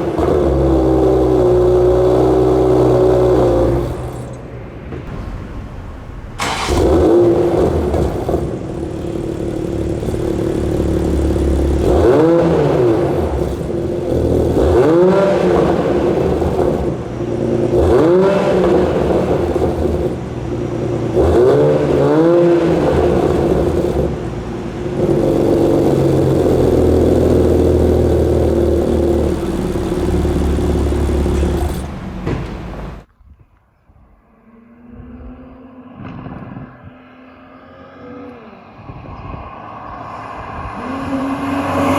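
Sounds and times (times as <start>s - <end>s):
car engine revving: 0.0s - 33.1s, 37.0s - 41.9s.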